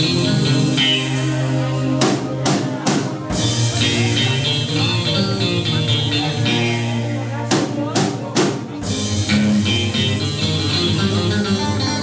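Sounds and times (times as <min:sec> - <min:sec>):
background music with drums: 0:00.0 - 0:12.0.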